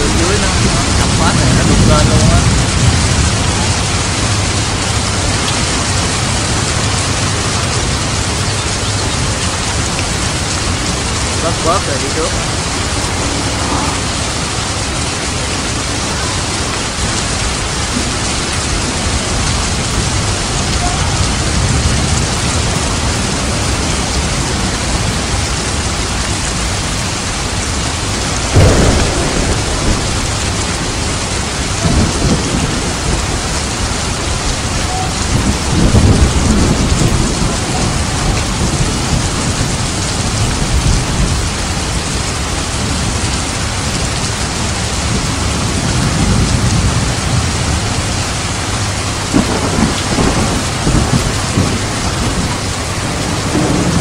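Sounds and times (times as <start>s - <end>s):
thunder rolling: 0.0s - 44.0s, 44.6s - 54.0s
heavy rain falling: 0.0s - 54.0s.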